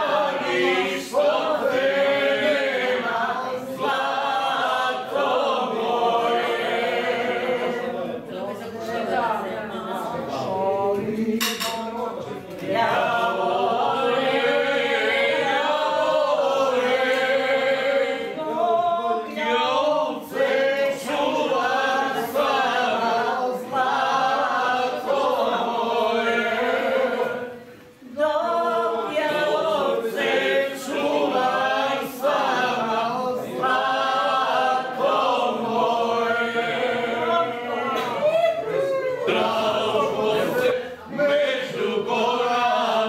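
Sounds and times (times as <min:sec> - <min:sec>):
group singing unaccompanied: 0:00.0 - 0:43.0.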